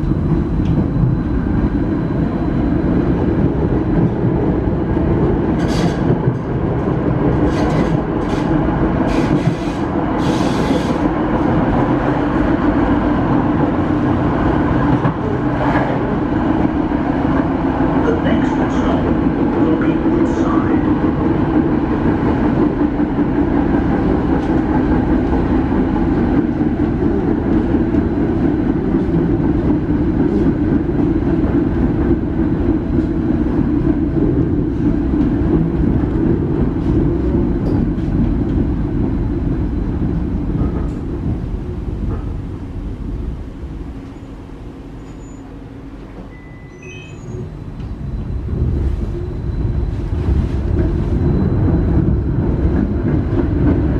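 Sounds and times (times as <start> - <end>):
tram rumbling from inside: 0.0 - 53.9.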